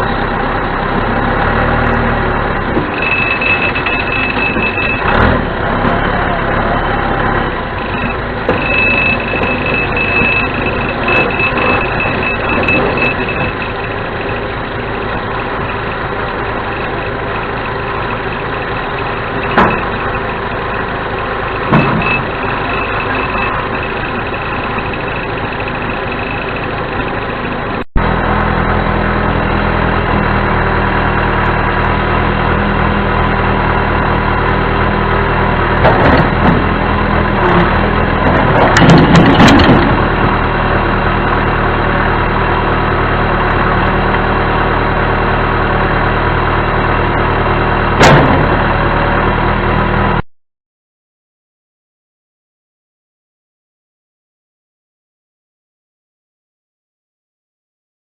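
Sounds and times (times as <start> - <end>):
diesel engine running: 0.0 - 50.2.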